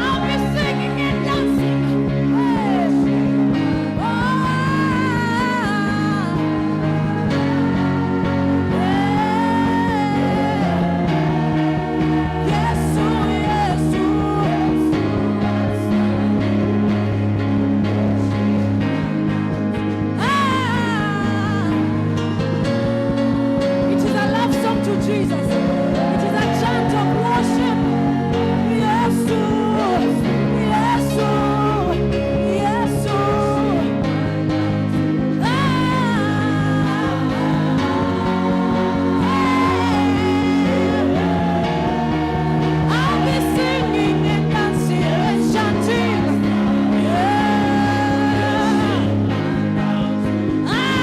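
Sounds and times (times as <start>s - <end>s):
wordless singing voice: 0.0s - 18.7s, 23.7s - 51.0s
bass line: 0.0s - 51.0s
keyboard chords: 0.0s - 51.0s.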